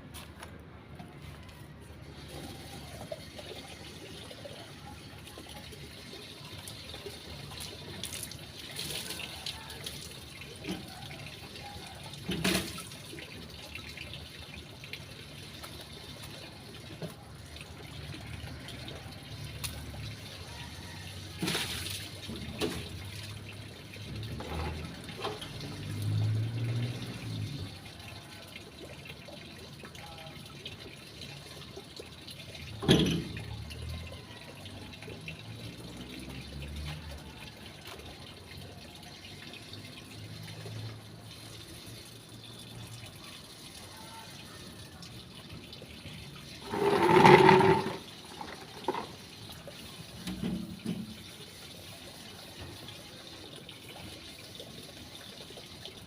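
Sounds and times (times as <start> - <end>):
water running and splashing: 1.2 - 56.0.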